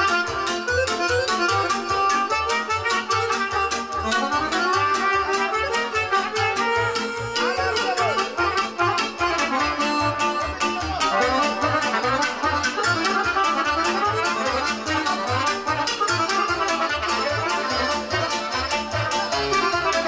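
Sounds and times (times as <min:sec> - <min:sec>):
lively accordion music: 0:00.0 - 0:20.0.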